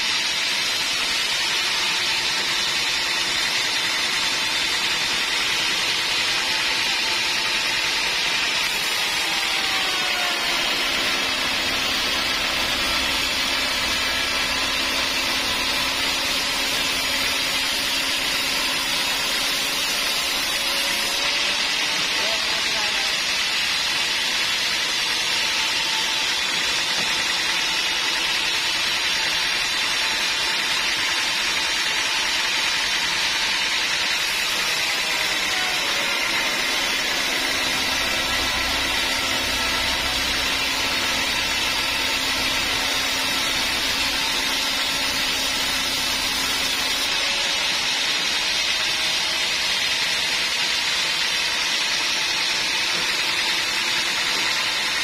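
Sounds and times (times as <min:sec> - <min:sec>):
sawmill machinery hissing: 0:00.0 - 0:55.0.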